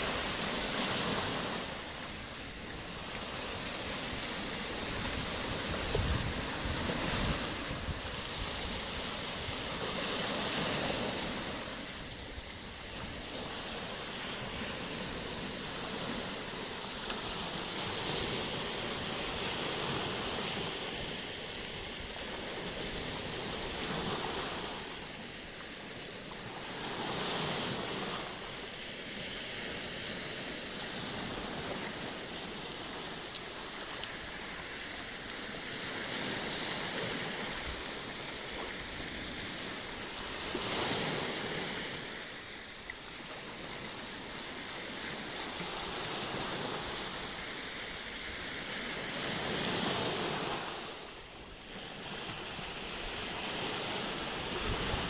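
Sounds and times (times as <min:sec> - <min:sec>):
surf on pebble beach: 0:00.0 - 0:55.0.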